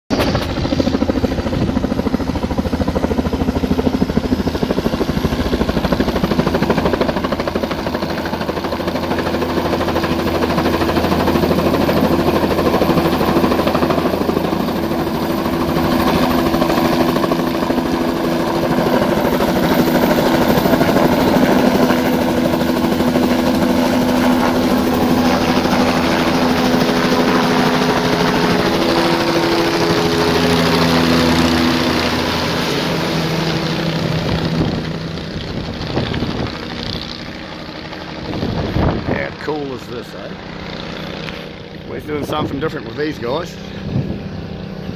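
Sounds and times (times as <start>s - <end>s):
helicopter engine running: 0.1s - 44.9s
helicopter rotor beating: 0.1s - 44.9s.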